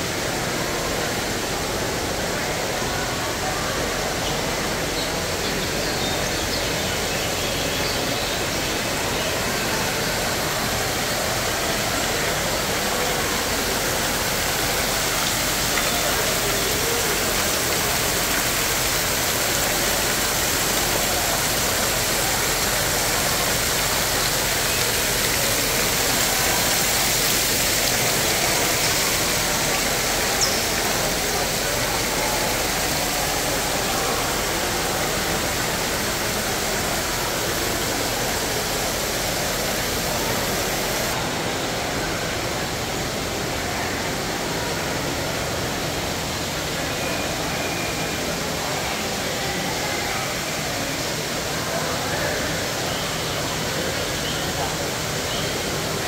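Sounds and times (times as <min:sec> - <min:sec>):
fountain water splashing: 0:00.0 - 0:56.0
murmur of voices: 0:00.0 - 0:56.0.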